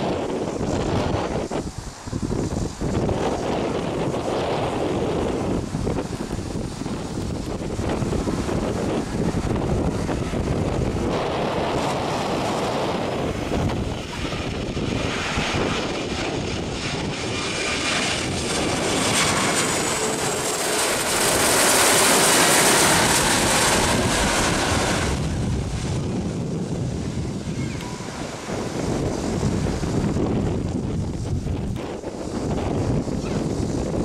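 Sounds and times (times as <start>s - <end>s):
jet airliner passing overhead: 0.0s - 34.0s
wind buffeting microphone: 0.0s - 34.0s.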